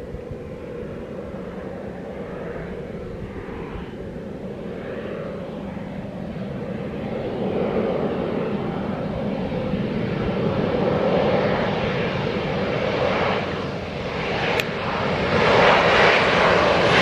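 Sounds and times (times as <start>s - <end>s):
airplane engine: 0.0s - 17.0s.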